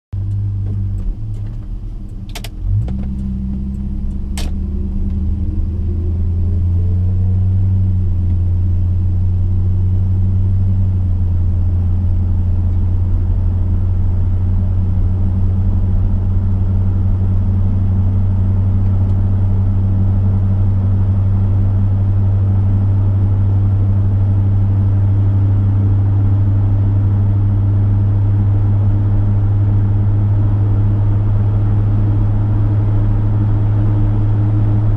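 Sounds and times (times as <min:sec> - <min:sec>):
car engine drone: 0:00.1 - 0:34.9.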